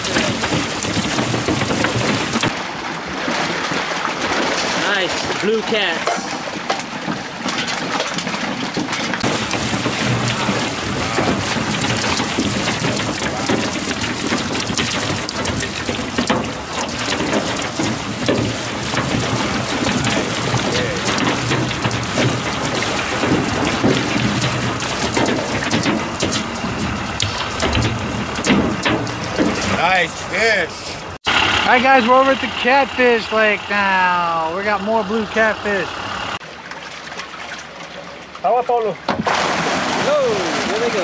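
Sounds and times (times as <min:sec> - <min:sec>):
water and fish gushing into lake: 0:00.0 - 0:41.0.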